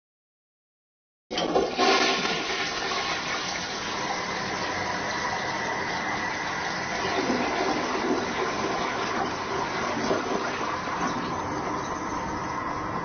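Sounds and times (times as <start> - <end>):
toilet flushing: 1.3 - 13.0.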